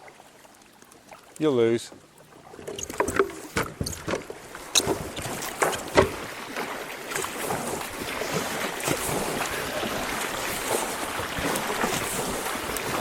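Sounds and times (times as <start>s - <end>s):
kayak paddles splashing: 0.0s - 13.0s
water washing: 0.8s - 13.0s.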